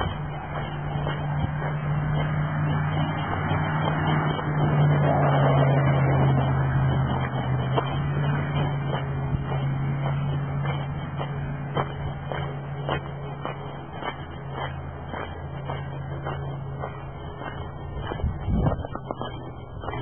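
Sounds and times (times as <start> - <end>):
footsteps on gravel: 0.0 - 20.0
low mechanical hum: 0.0 - 20.0.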